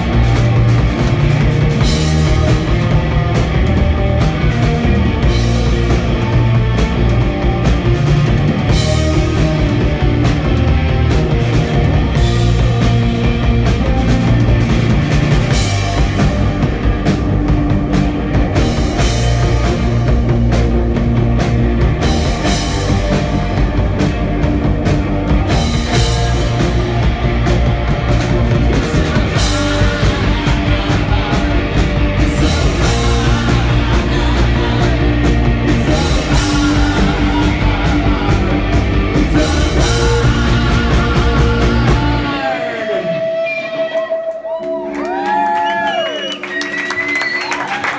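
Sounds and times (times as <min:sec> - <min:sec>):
rock band playing live: 0:00.0 - 0:47.9.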